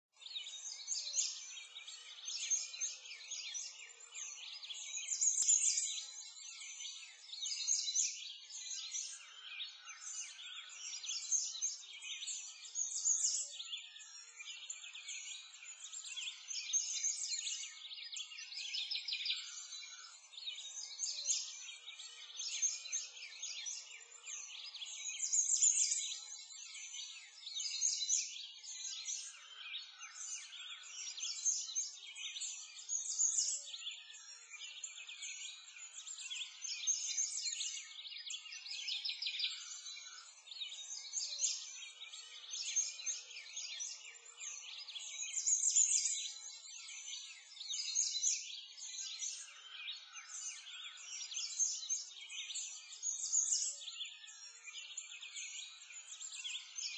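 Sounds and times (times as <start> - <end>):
songbirds chirping and singing: 0.0 - 56.9.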